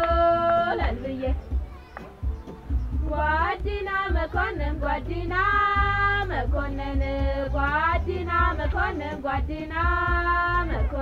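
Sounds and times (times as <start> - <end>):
steady bass accompaniment: 0.0 - 11.0.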